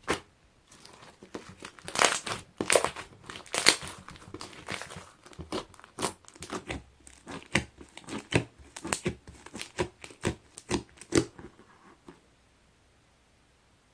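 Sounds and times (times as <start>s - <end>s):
slime crackling and popping: 0.0s - 11.5s.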